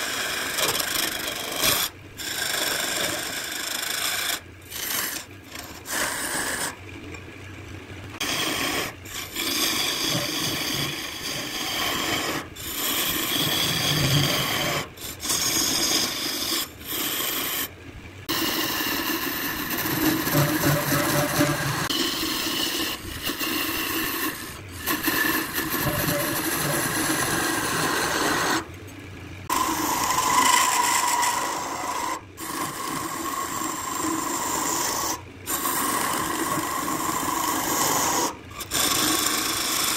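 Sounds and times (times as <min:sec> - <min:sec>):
lathe tool scraping: 0:00.0 - 0:06.8, 0:08.2 - 0:17.7, 0:18.3 - 0:28.7, 0:29.5 - 0:39.9.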